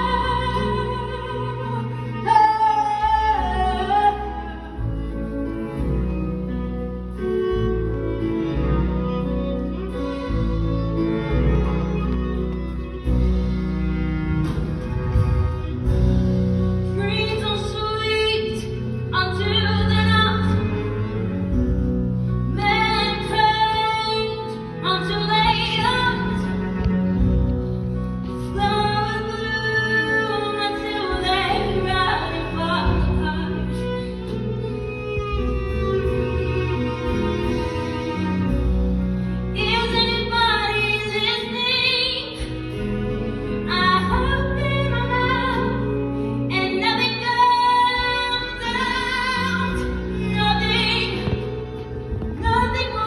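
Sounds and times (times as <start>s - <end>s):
pit band with bowed strings: 0.0s - 53.0s.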